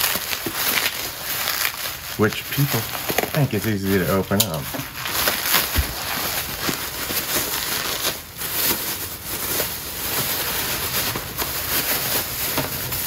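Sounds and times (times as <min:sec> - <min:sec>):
bubble wrap and plastic crinkling: 0:00.0 - 0:13.0.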